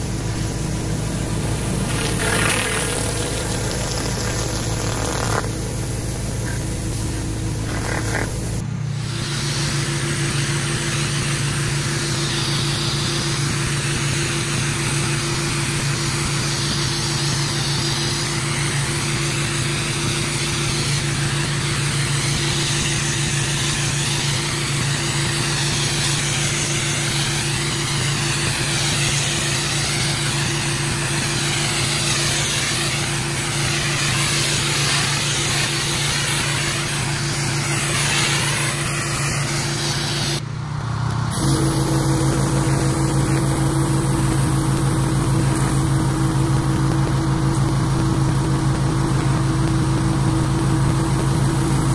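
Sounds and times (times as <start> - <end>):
water spraying onto concrete: 0.0 - 40.4, 41.2 - 51.9
pressure washer engine running: 0.0 - 51.9.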